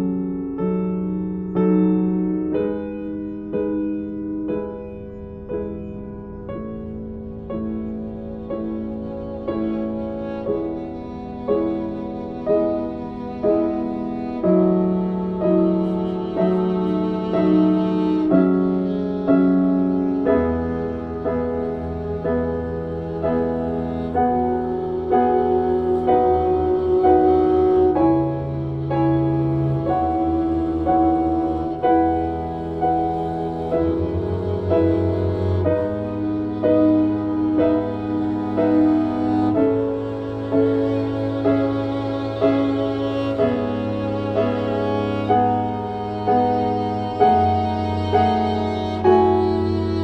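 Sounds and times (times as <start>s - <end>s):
piano melody: 0.0s - 50.0s
slow instrumental music: 0.0s - 50.0s.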